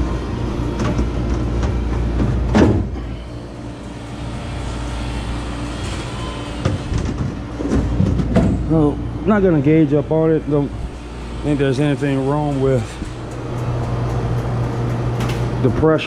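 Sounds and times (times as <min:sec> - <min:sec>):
freezer compressor humming: 0:00.0 - 0:16.0.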